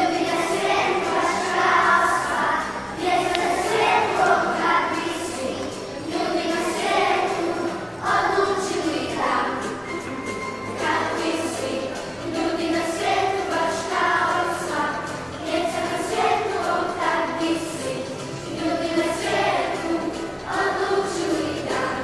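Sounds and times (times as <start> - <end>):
song with singing: 0.0 - 22.0.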